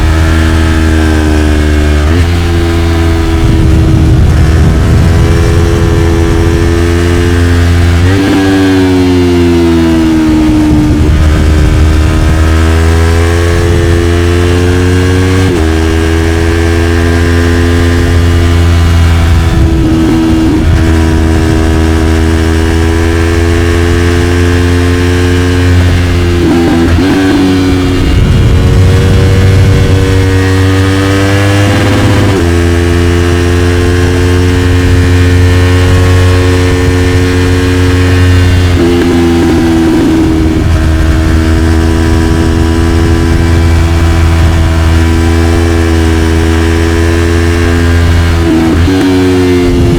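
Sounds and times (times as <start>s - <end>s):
motorcycle engine accelerating hard: 0.0s - 49.9s.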